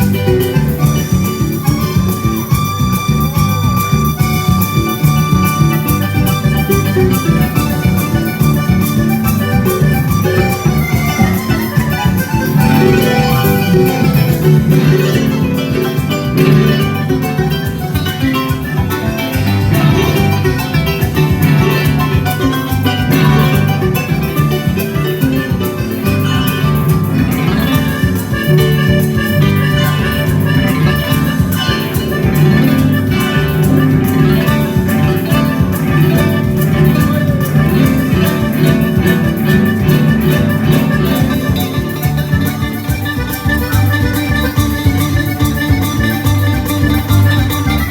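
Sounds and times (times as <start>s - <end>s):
plucked string instruments playing: 0.0s - 47.9s.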